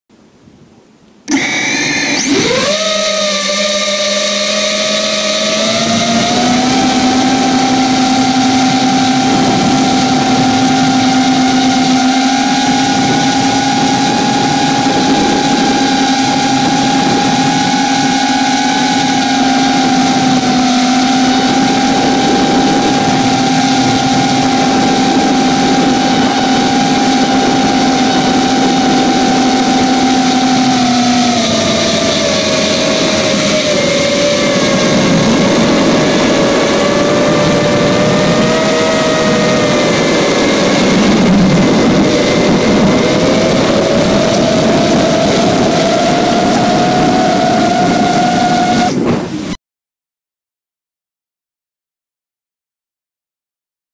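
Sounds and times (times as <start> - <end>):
drone motors whining: 1.3 - 49.6.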